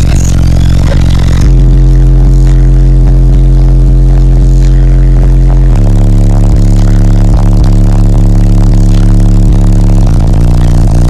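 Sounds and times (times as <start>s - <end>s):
heavy bass music from car subwoofer: 0.0s - 11.0s.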